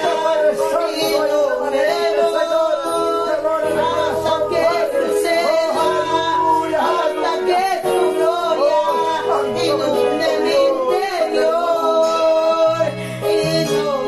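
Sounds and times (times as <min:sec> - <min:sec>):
group singing worship song: 0:00.0 - 0:14.0.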